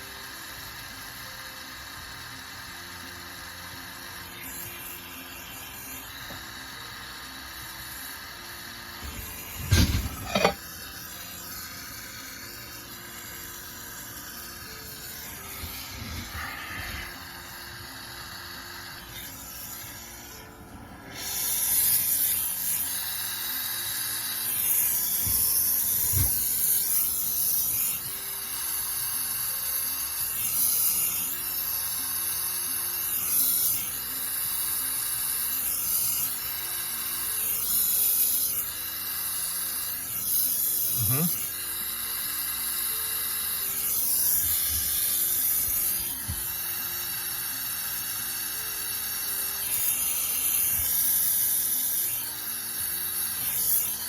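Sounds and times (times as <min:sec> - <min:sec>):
torch hissing: 0:00.0 - 0:54.0.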